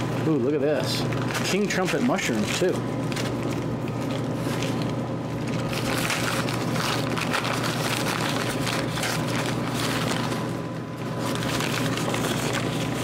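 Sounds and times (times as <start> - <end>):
steady low hum: 0.0 - 13.0
paper and plastic bags crinkling: 0.8 - 13.0.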